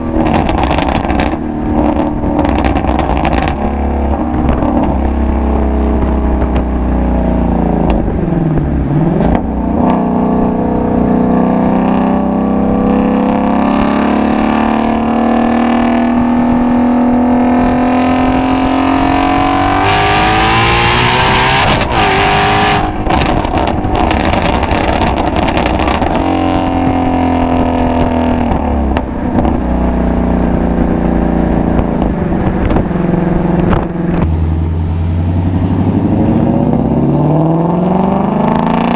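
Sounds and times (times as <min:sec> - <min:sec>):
sports car exhaust revving: 0:00.0 - 0:38.9.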